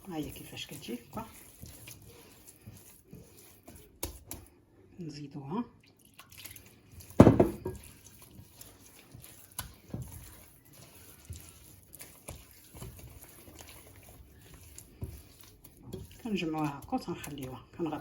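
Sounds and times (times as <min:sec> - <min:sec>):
hands squelching wet dough: 0:00.0 - 0:04.7, 0:05.7 - 0:18.0.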